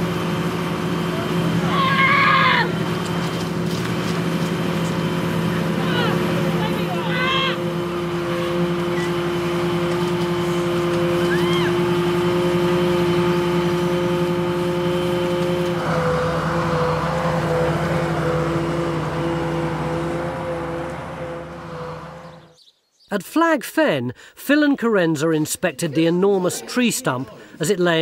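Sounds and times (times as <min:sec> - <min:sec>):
heavy machinery engine running: 0:00.0 - 0:22.6.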